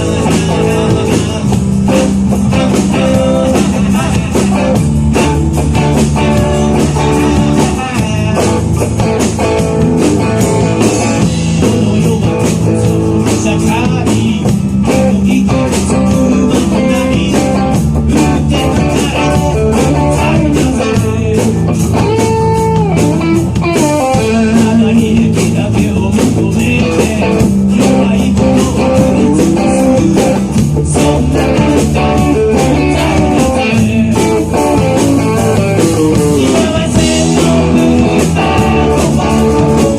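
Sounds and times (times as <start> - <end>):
lead guitar bending notes: 0.0 - 14.0, 14.7 - 25.3, 27.2 - 39.9
rock band playing live: 0.0 - 39.9.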